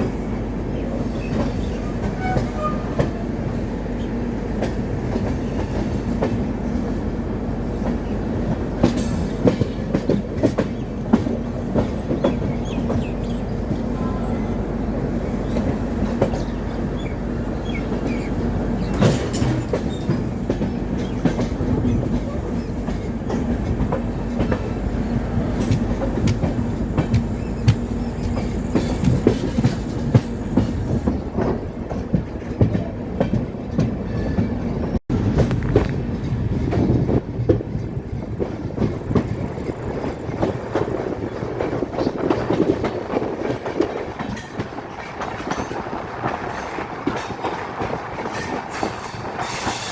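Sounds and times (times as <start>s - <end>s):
train rumble: 0.0s - 49.9s
train wheels clicking over rail joints: 1.0s - 14.0s, 15.2s - 49.9s.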